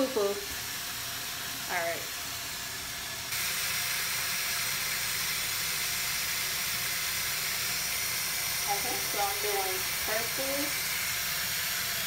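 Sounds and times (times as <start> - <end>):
faucet running into basin: 0.0 - 12.0.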